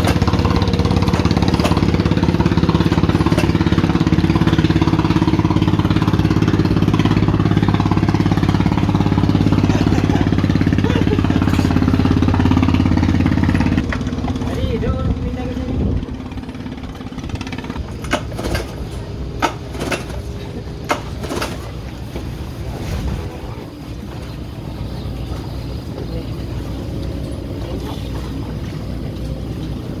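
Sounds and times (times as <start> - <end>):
outboard motor rumbling: 0.0 - 30.0.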